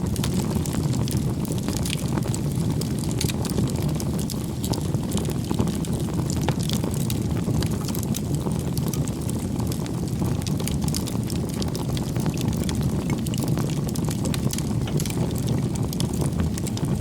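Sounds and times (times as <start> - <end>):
campfire crackling: 0.0 - 17.0
rush of flame: 0.0 - 17.0.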